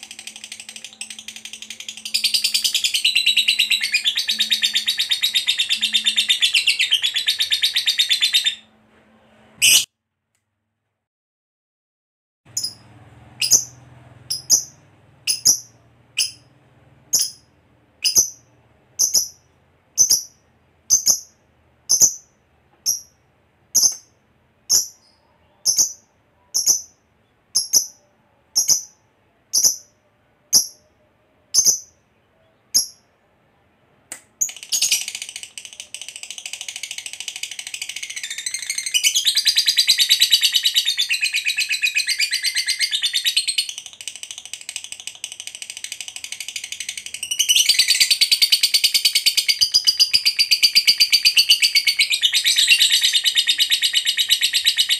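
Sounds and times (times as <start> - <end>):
lovebird chirping and chattering: 0.0 - 8.7, 9.6 - 9.9, 12.5 - 16.5, 17.1 - 33.1, 34.4 - 54.9.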